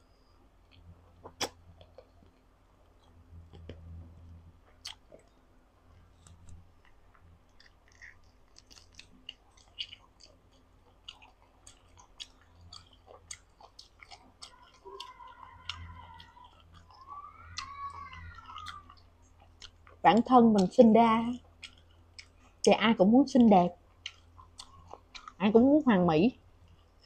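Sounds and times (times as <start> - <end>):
person chewing with wet smacks: 0.6 - 27.0.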